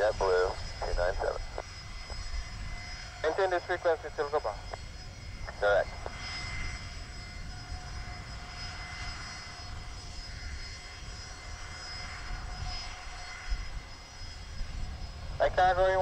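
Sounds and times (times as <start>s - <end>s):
jet engines rumbling with whine: 0.0s - 16.0s.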